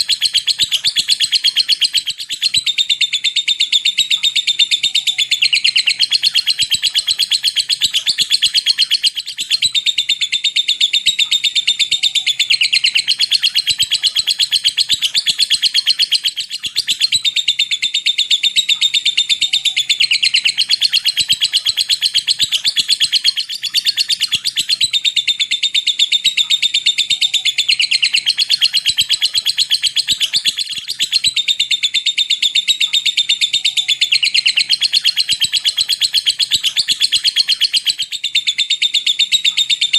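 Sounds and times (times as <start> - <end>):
lovebird chatter trill: 0.0 - 39.9.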